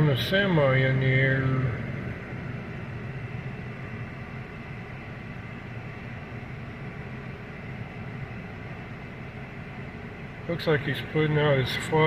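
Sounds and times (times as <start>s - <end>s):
engine idling: 0.0s - 12.0s
faint high whine: 0.0s - 12.0s.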